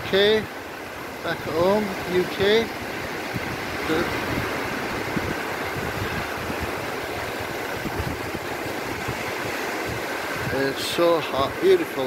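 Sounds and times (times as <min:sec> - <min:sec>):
small waves breaking: 0:00.0 - 0:12.0
wind rumble on microphone: 0:00.0 - 0:12.0.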